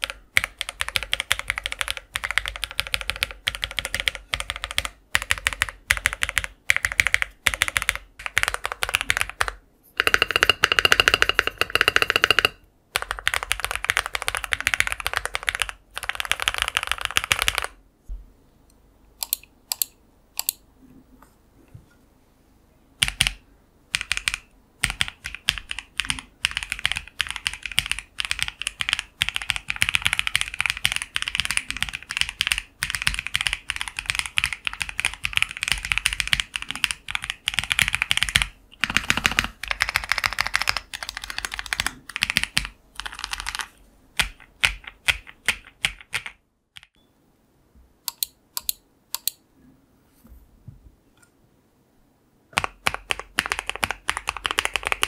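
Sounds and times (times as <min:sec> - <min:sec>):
mechanical keyboard typing: 0:00.0 - 0:17.8, 0:19.2 - 0:20.6, 0:23.0 - 0:47.0, 0:52.6 - 0:55.0.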